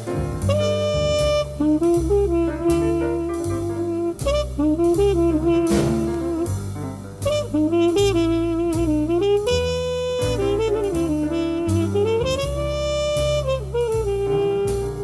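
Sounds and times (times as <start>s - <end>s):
bass and drums: 0.0s - 15.0s
jazz trumpet melody: 0.0s - 15.0s.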